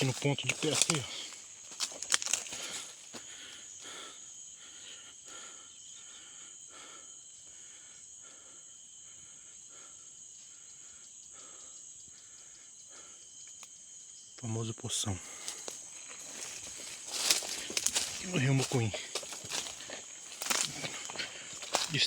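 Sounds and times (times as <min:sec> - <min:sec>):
forest insects buzzing: 0:00.0 - 0:22.0.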